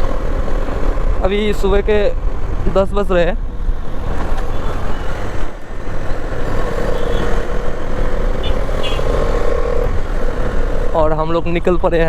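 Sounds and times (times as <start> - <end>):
motorcycle road noise: 0.0 - 12.0.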